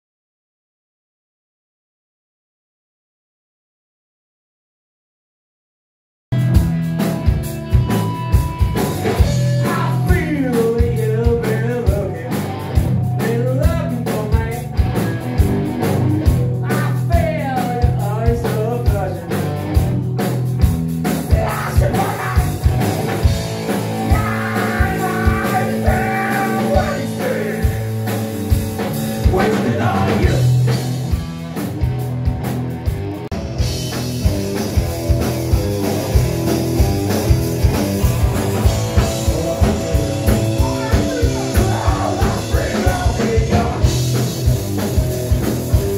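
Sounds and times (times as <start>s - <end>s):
distorted electric guitars: 6.3s - 45.9s
drum kit steady beat: 6.3s - 45.9s.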